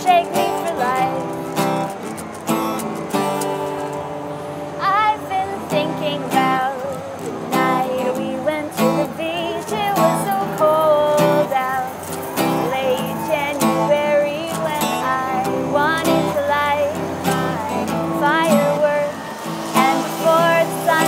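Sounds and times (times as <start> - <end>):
person singing with vibrato: 0.0 - 1.8, 4.5 - 21.0
acoustic guitar strumming: 0.0 - 21.0.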